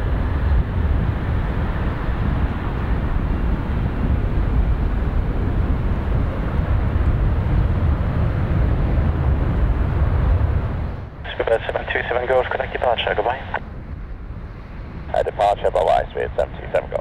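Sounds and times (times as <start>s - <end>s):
jet airliner taking off: 0.0s - 13.6s, 14.5s - 17.0s.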